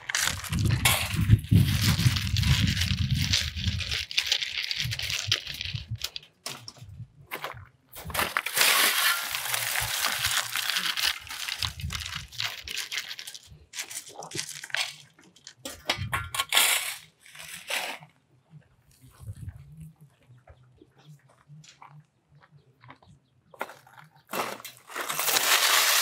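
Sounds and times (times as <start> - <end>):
gravel crunching and rattling: 0.0 - 26.0.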